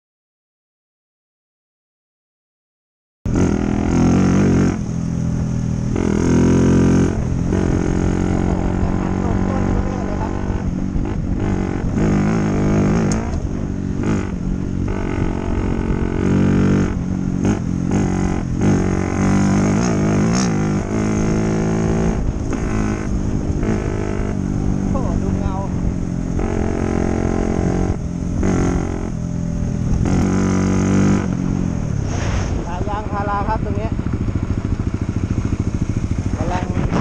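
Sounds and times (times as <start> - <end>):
dirt bike engine running: 3.3 - 37.0.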